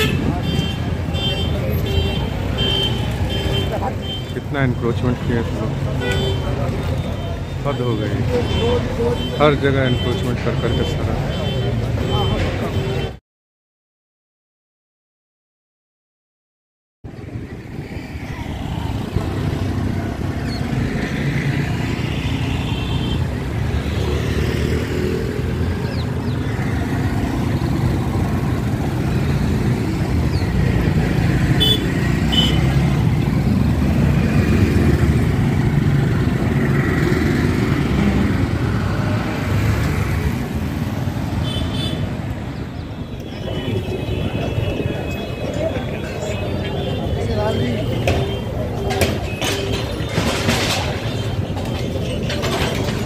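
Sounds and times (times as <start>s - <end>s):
cars and motorcycles passing: 0.0s - 13.2s, 17.1s - 53.0s.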